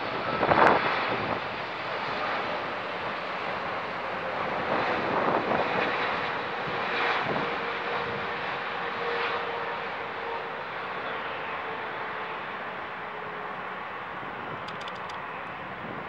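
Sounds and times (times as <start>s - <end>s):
jet engines rumbling and hissing: 0.0s - 16.0s.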